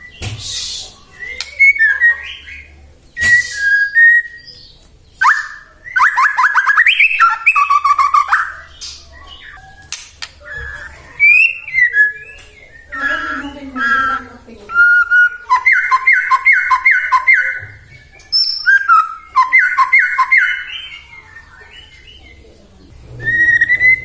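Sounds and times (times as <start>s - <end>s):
harsh rasping bird notes: 0.0s - 22.2s, 22.9s - 24.0s
songbird whistling and trilling: 0.0s - 22.4s, 23.2s - 24.0s.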